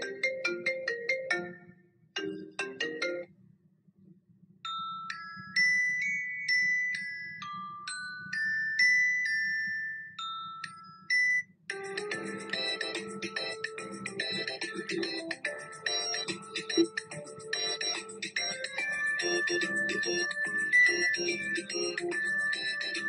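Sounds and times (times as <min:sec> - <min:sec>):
chiming ringtone melody: 0:00.0 - 0:03.3, 0:04.7 - 0:23.0
marimba-like ringtone tune: 0:00.0 - 0:03.3, 0:04.7 - 0:23.0.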